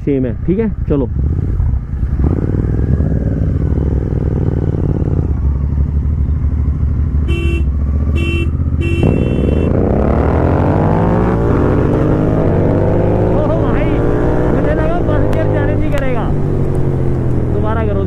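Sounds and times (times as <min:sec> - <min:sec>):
motorcycle engines running: 0:00.0 - 0:18.0.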